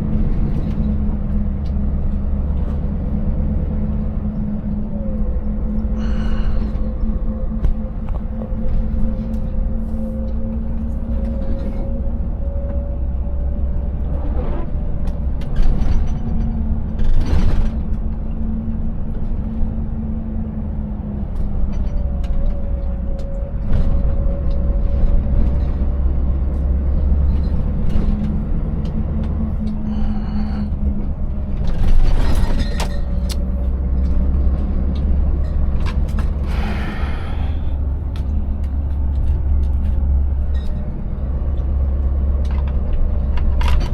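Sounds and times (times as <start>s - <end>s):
truck engine rumbling: 0.0s - 43.9s.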